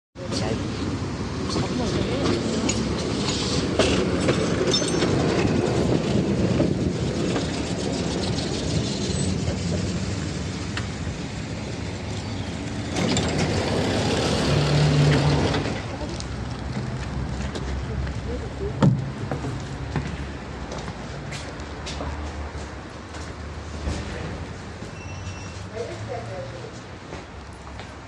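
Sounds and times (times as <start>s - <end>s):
tram rumbling on rails: 0.2s - 28.0s.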